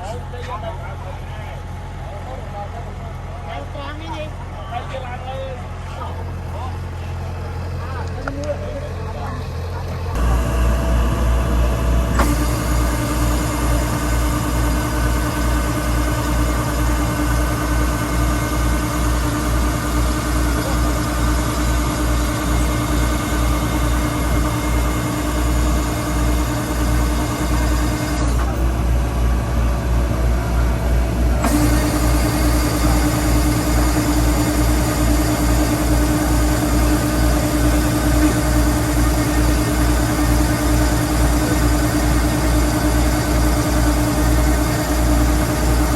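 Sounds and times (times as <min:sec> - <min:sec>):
combine harvester engine throb: 0:00.0 - 0:45.9
steady mechanical whine: 0:00.0 - 0:45.9.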